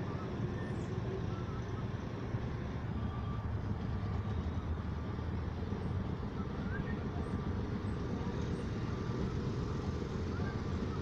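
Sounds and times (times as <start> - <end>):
small engines humming: 0.0 - 11.0.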